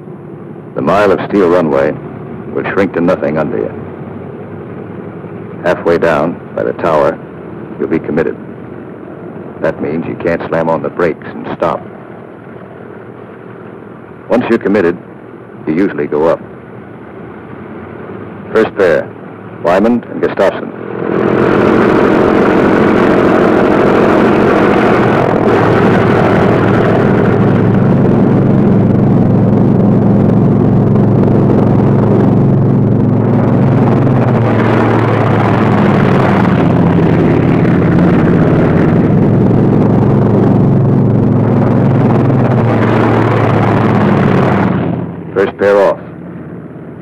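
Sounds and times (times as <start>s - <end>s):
radial aircraft engines droning: 0.0s - 47.0s.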